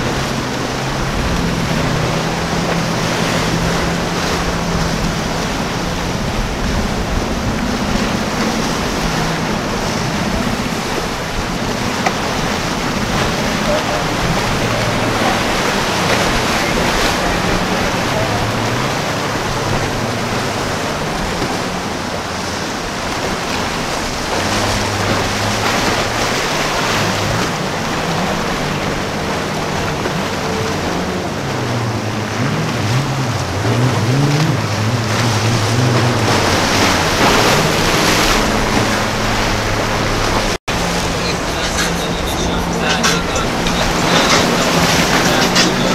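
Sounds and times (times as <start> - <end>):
outboard engines humming: 0.0 - 45.9
surf and choppy water: 0.0 - 45.9.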